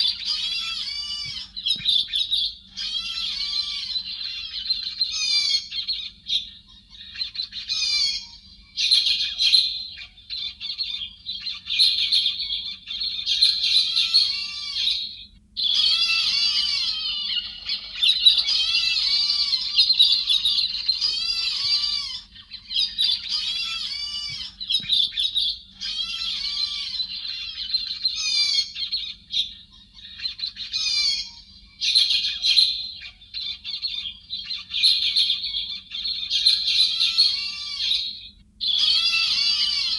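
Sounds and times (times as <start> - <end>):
faint steady hum: 0.0 - 39.9
flock of birds chattering: 0.0 - 39.9.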